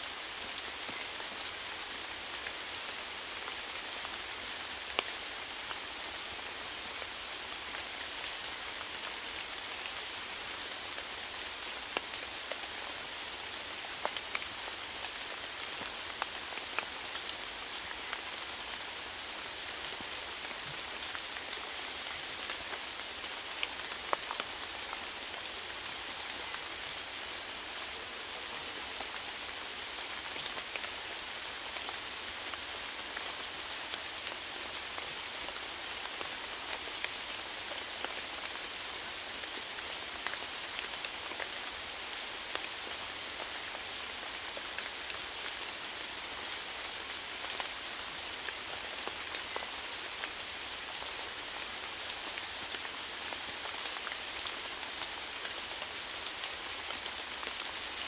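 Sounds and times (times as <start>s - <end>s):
steady rainfall: 0.0s - 58.0s
raindrops ticking on a surface: 0.2s - 58.0s.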